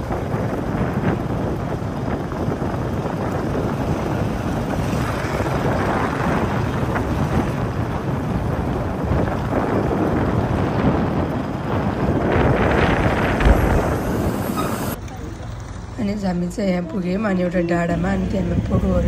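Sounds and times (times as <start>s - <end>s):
wind rushing over microphone: 0.0s - 15.0s, 17.8s - 19.0s
vehicle noise: 0.0s - 19.0s.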